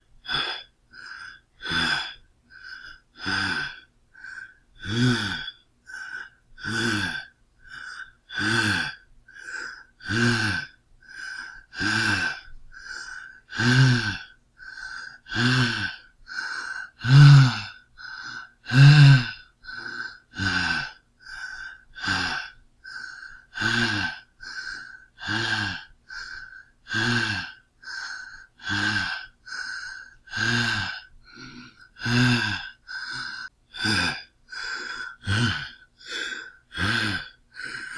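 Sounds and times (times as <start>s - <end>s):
man breathing hard: 0.0s - 37.9s.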